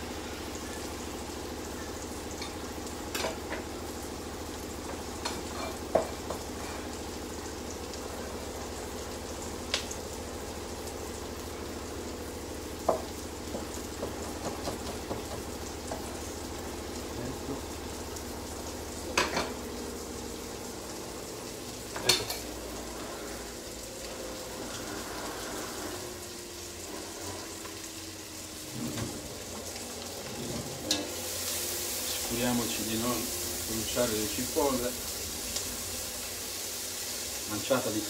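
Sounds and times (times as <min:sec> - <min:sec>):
onions sizzling in a pan: 0:00.0 - 0:38.0.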